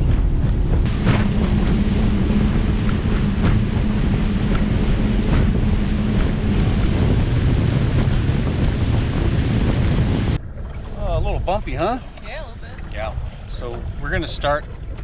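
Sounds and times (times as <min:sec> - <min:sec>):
hull slapping choppy water: 0:00.0 - 0:15.0
outboard motor running: 0:00.0 - 0:15.0
wind buffeting microphone: 0:00.0 - 0:15.0.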